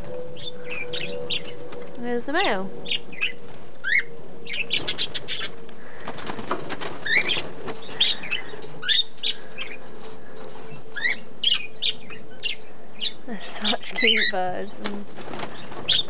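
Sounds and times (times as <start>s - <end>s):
wings flapping: 0.0s - 12.6s, 13.7s - 16.0s
budgies chirping: 0.0s - 16.0s.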